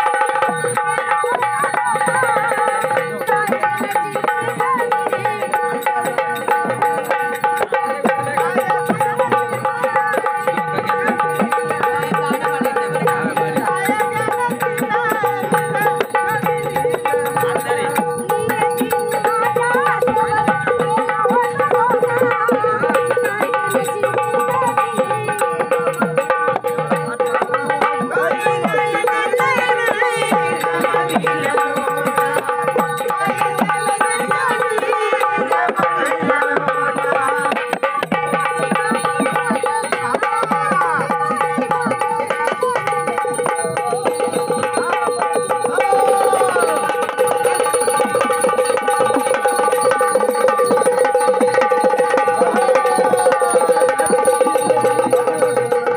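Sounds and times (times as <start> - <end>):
hand drums fast rhythm: 0.0 - 55.9.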